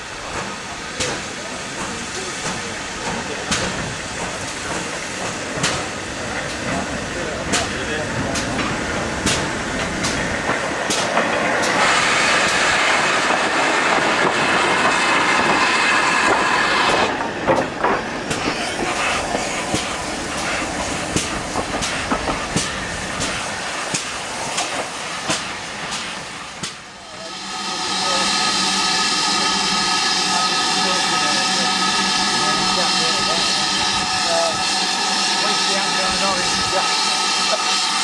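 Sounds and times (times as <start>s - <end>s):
steam hiss: 0.0s - 38.0s
steam locomotive passing: 0.0s - 38.0s.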